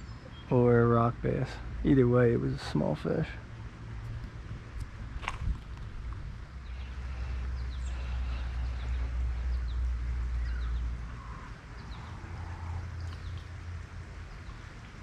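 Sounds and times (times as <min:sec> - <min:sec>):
flowing water hiss: 0:00.2 - 0:15.0.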